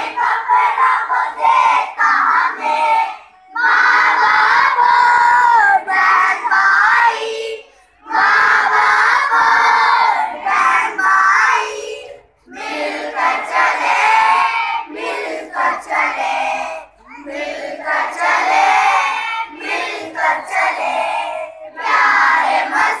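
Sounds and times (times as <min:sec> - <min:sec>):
children singing: 0:00.0 - 0:23.0.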